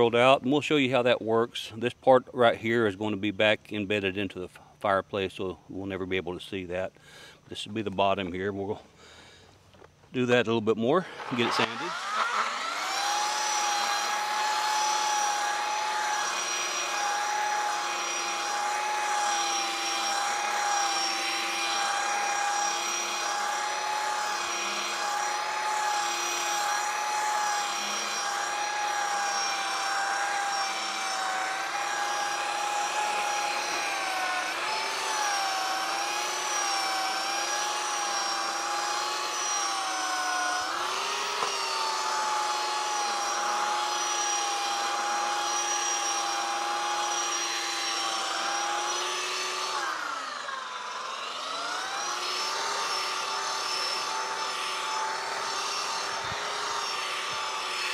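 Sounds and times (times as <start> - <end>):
electric sander whining: 6.7 - 57.9.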